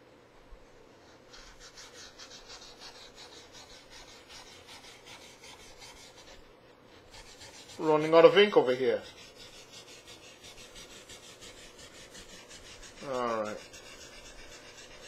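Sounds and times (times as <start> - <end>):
marker scratching on paper: 1.1 - 15.0.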